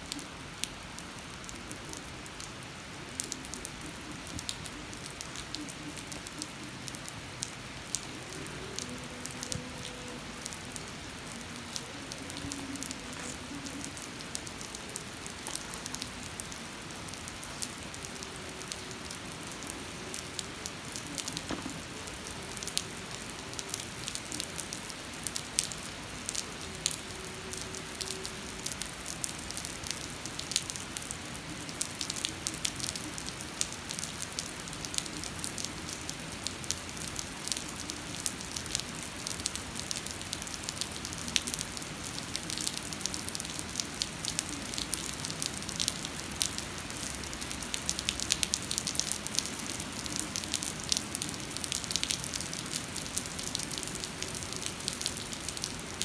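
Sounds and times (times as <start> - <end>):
rain falling on wet pavement: 0.0 - 56.0.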